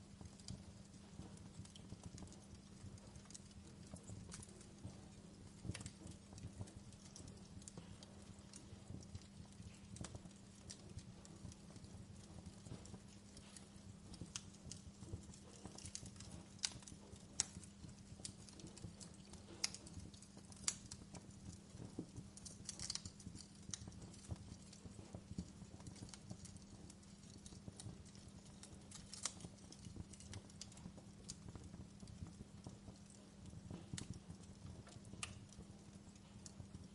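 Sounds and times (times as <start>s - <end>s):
low steady hum: 0.0s - 36.9s
wood fire crackling: 0.0s - 36.9s.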